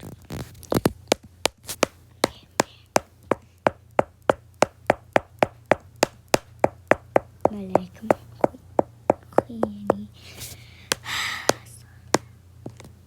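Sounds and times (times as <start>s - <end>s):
rhythmic sharp taps: 1.1s - 10.2s, 10.9s - 12.3s.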